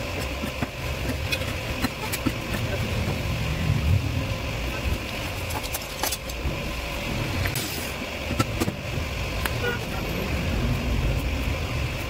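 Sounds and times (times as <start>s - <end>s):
low workshop rumble: 0.0s - 12.0s.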